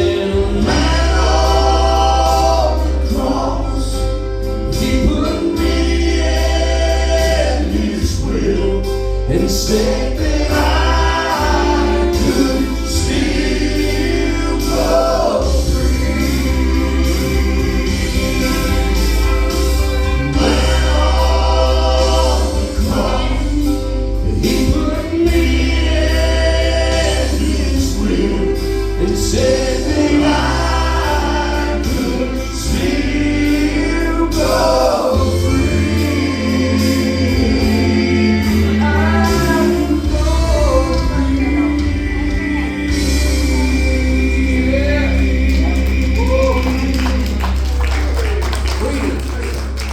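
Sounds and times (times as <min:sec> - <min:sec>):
band with strong bass line: 0:00.0 - 0:49.9
group singing in harmony: 0:00.0 - 0:49.9
instrumental backing: 0:00.0 - 0:49.9.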